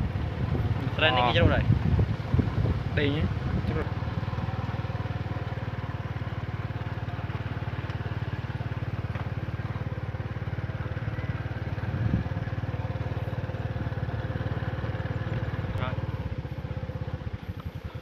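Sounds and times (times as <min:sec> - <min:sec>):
small motorbike engine: 0:00.0 - 0:18.0.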